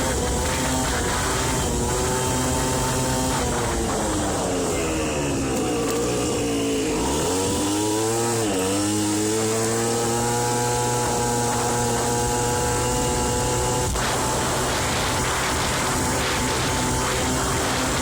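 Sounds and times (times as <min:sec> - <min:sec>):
scooter engine running: 0:00.0 - 0:18.0.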